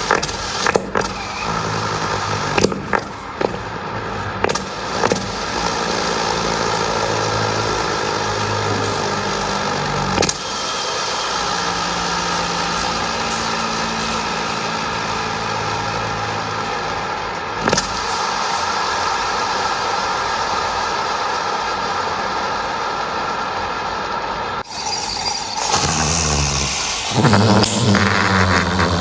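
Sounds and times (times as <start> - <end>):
engine humming: 0.0 - 24.7, 25.5 - 29.0.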